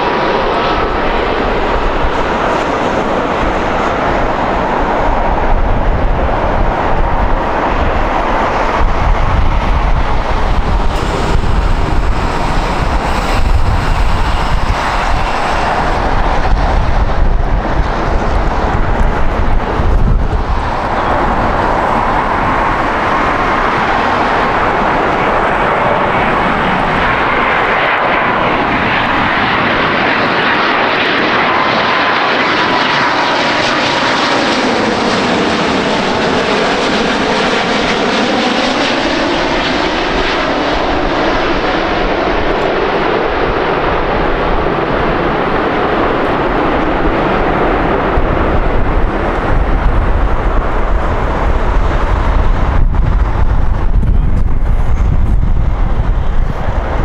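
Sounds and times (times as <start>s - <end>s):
jet airliner engines rumbling: 0.0s - 57.0s
jet engine whine: 0.0s - 57.0s.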